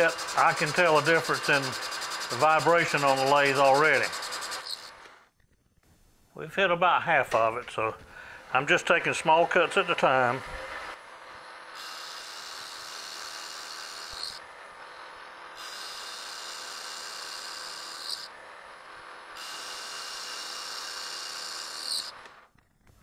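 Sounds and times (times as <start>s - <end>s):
cutting tool scraping metal: 0.0s - 5.2s, 8.5s - 22.4s
lathe machine hum: 0.0s - 5.2s, 8.4s - 22.4s.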